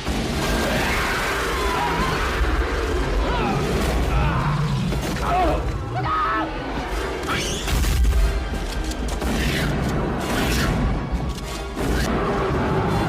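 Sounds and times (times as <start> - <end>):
dramatic music: 0.0 - 13.0.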